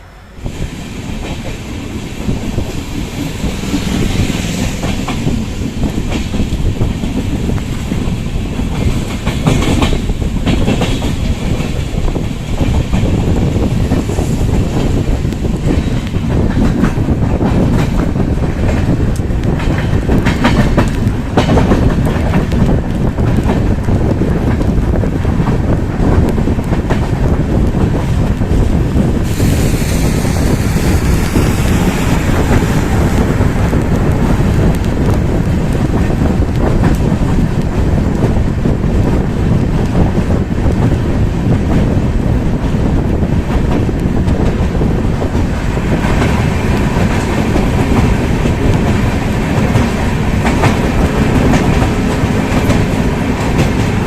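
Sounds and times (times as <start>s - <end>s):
train wheels clattering over rail joints: 0.4s - 54.0s.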